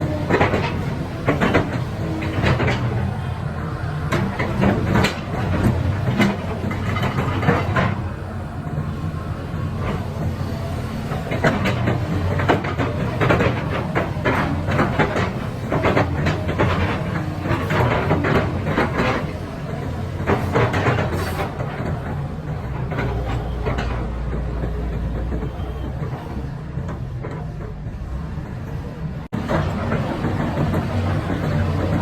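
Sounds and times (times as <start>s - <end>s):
metallic clanks and knocks: 0.0s - 3.4s, 4.0s - 8.2s, 9.0s - 28.0s
excavator diesel engine running: 0.0s - 32.0s.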